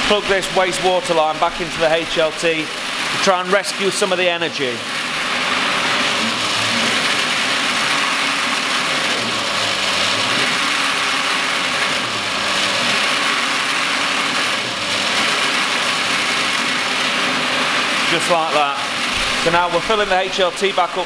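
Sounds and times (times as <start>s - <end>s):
pump running with racket: 0.0s - 21.0s
water rushing from hose: 0.0s - 21.0s.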